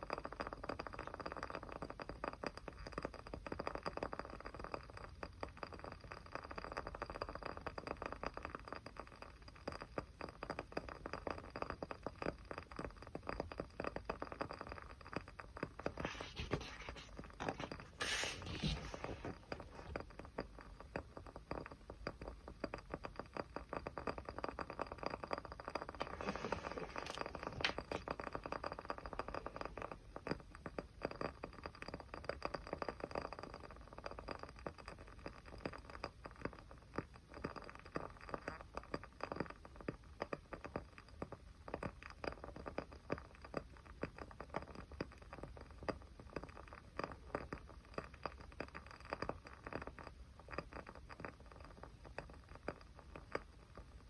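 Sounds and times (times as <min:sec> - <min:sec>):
small fire crackling: 0:00.0 - 0:54.0.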